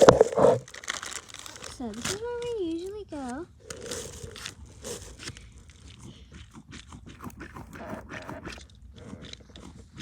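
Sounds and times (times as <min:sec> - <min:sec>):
crunching and clicking handling noises: 0:00.0 - 0:10.0.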